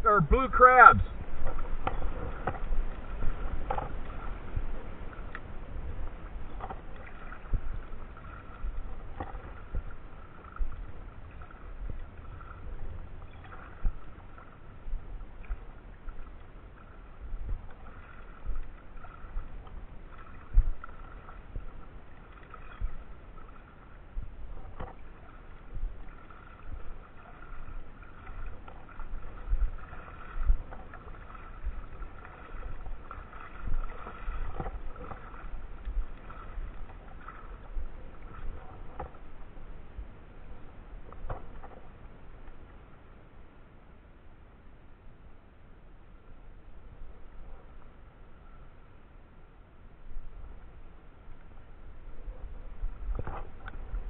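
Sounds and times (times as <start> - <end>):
low microphone rumbles: 0.0 - 42.5, 50.0 - 54.0
water lapping and sloshing: 0.0 - 54.0.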